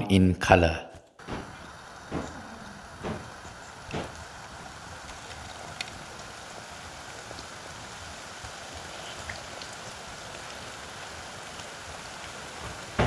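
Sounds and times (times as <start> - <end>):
food deep-frying in oil: 1.2 - 13.0.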